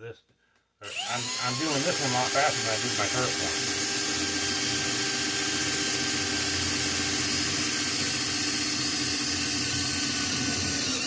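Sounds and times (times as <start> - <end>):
electric drill drilling metal: 0.8 - 11.0.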